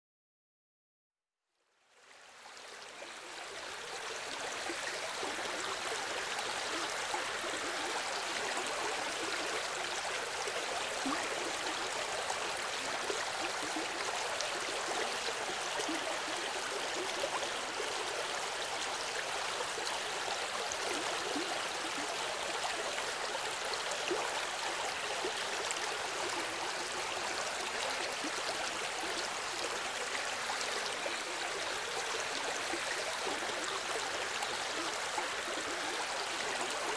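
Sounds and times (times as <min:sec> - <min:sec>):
river water rushing and babbling: 0:02.0 - 0:36.9.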